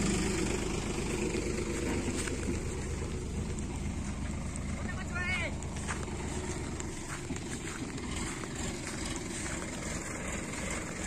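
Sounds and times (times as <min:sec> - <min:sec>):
diesel tractor engine rumbling: 0:00.0 - 0:11.0.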